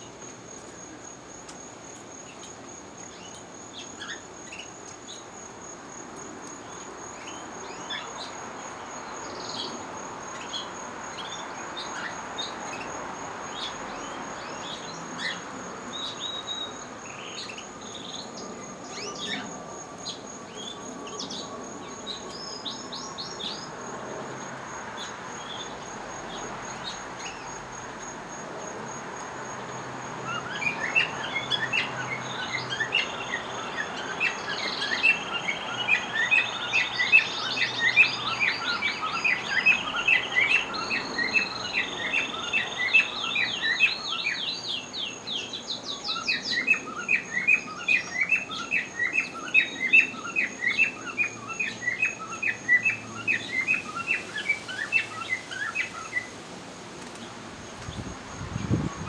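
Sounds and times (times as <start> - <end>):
canaries singing: 2.2 - 5.3, 6.7 - 28.6, 29.2 - 56.4.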